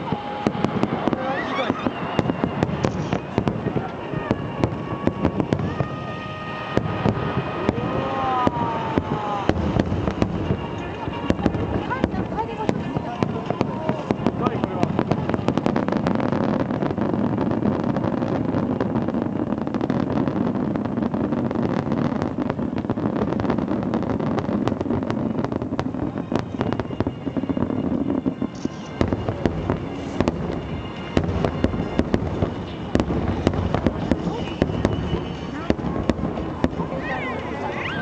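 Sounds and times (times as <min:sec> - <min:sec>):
fireworks bursting and crackling: 0:00.0 - 0:38.0
low fireworks booms: 0:00.0 - 0:38.0.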